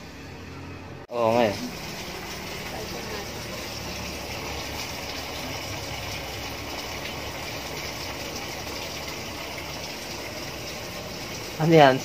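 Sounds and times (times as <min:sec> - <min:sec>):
washing machine hum: 0:00.0 - 0:12.0
water rushing into washing machine: 0:01.1 - 0:12.0.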